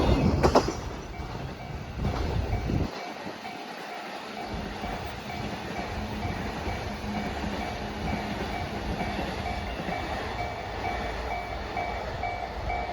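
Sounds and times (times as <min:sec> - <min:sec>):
train rumble and wheel clatter: 0:00.0 - 0:12.9
level crossing bell ringing: 0:02.5 - 0:12.9.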